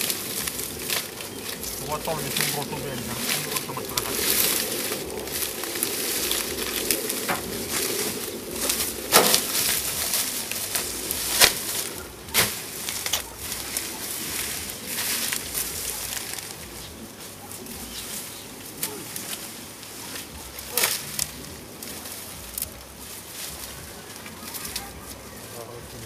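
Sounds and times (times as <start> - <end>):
sugarcane stalks rustling: 0.0 - 26.0.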